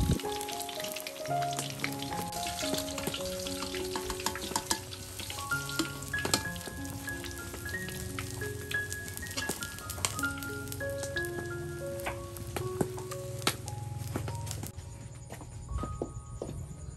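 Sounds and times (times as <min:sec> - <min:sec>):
hot oil sizzling in a wok: 0:00.0 - 0:14.7
soft background music: 0:00.0 - 0:16.9.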